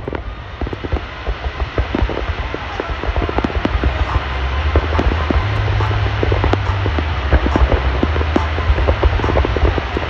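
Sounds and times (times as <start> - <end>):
fireworks popping and crackling: 0.0 - 10.0
low rumble: 0.0 - 10.0.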